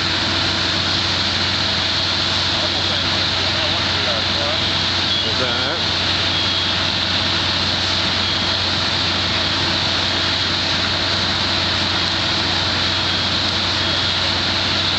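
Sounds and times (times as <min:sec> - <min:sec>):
fire engine pump drone: 0:00.0 - 0:14.9.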